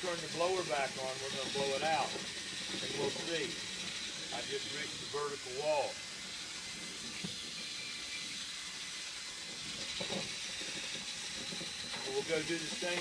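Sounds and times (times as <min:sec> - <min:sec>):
brush whirring inside metal pipe: 0:00.0 - 0:13.0.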